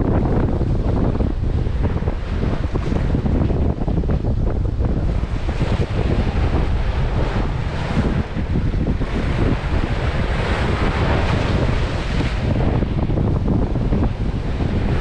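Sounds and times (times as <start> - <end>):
waves washing against rocks: 0.0 - 15.0
wind noise on microphone: 0.0 - 15.0.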